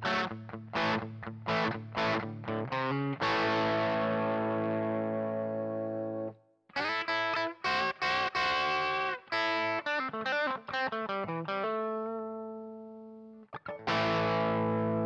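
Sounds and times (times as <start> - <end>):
overdriven electric guitar chords: 0.0 - 15.0.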